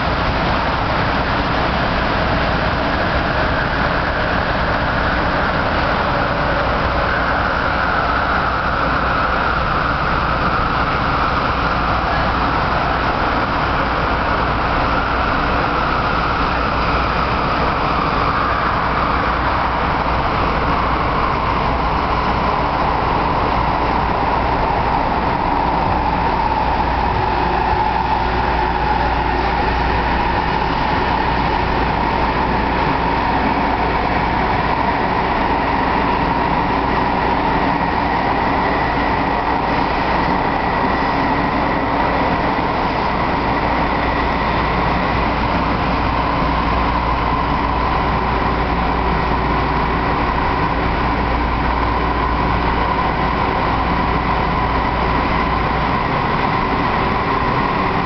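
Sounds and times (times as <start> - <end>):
steady whine-like tone: 0.0 - 58.0
train wheel running noise: 0.0 - 58.0.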